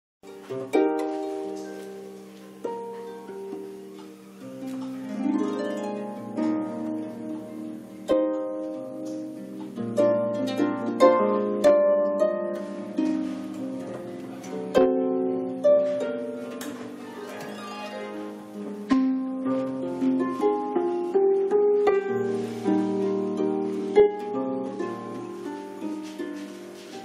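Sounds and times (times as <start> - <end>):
harp plucked notes and chords: 0.3 - 27.0.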